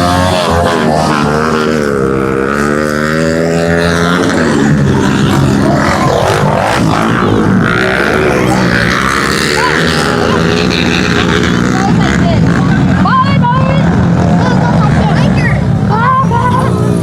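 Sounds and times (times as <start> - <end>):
pit bike engines revving: 0.0 - 17.0.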